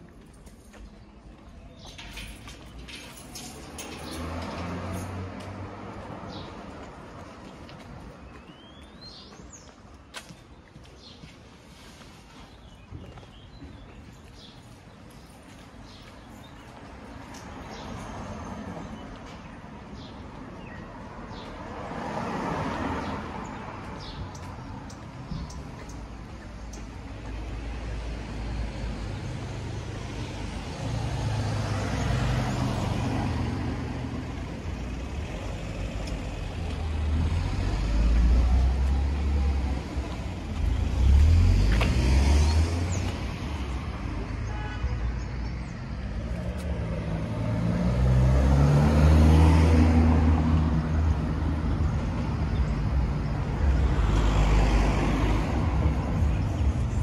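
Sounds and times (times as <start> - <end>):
cars driving past: 1.8 - 9.6, 17.1 - 57.0.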